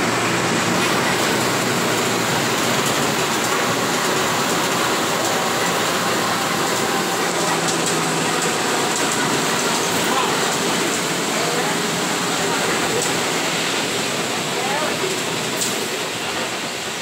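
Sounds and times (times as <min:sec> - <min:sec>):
low engine drone: 0:00.0 - 0:16.2
tyres hissing on wet road: 0:00.0 - 0:17.0.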